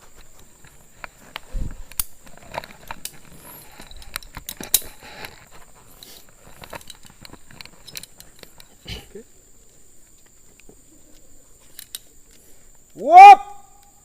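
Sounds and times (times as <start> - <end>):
metallic clicks of climbing gear: 0.0 - 13.0.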